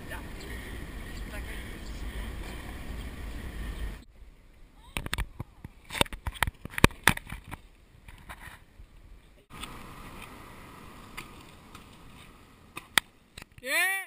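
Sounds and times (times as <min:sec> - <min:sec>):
wheels rolling on road: 0:00.0 - 0:13.6.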